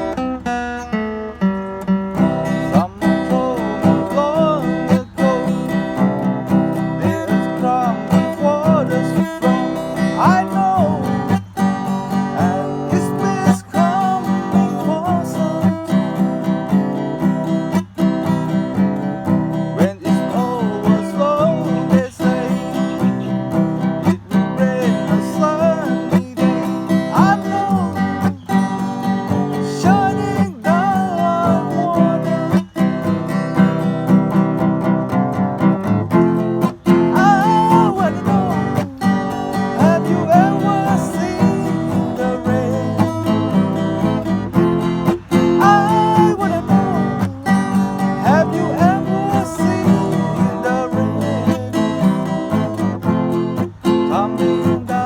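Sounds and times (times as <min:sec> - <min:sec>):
acoustic guitar strumming chords: 0:00.0 - 0:55.0
guitar lead line with bent notes: 0:00.0 - 0:55.0.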